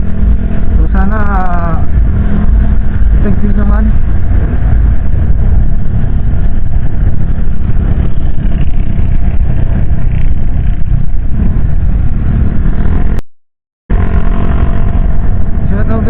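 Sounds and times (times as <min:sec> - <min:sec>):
motorcycle engine and road noise: 0:00.0 - 0:13.2, 0:13.9 - 0:16.0
wind buffeting: 0:00.0 - 0:13.2, 0:13.9 - 0:16.0.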